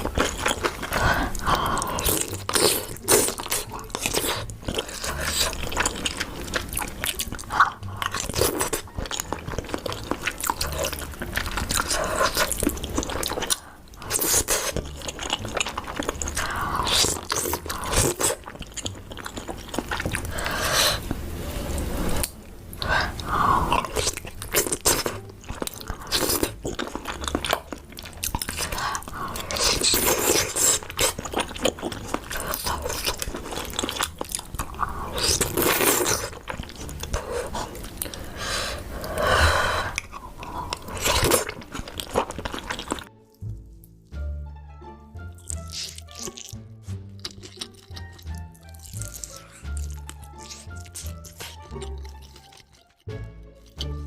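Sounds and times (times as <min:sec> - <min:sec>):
crunchy chewing and biting: 0:00.0 - 0:21.2, 0:21.8 - 0:44.0, 0:45.3 - 0:54.0.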